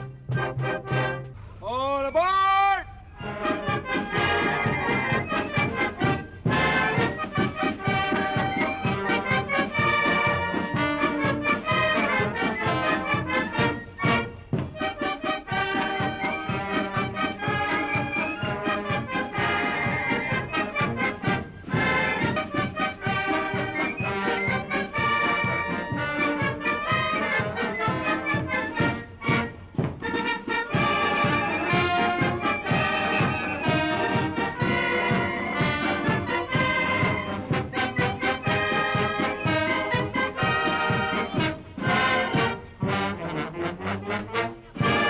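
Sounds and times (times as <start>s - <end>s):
brass band playing: 0.0s - 1.6s, 2.9s - 45.0s.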